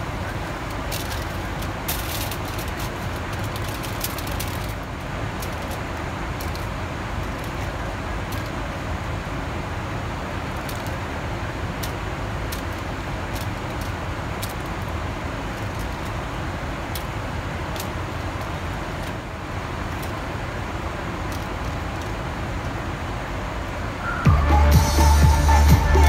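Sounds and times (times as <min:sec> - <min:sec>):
airliner cabin rumble: 0:00.0 - 0:24.3.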